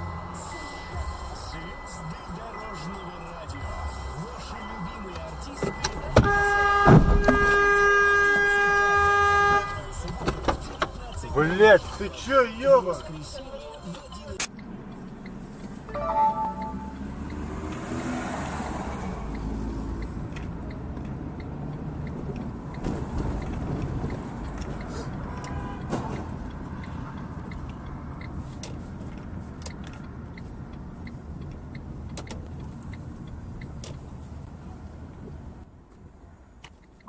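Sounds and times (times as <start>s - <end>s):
car engine and road rumble: 0.0s - 37.0s.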